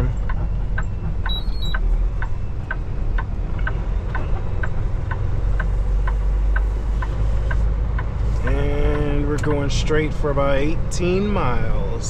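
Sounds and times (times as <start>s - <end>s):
turn signal clicker ticking: 0.0s - 10.2s
diesel engine rumble: 0.0s - 12.0s.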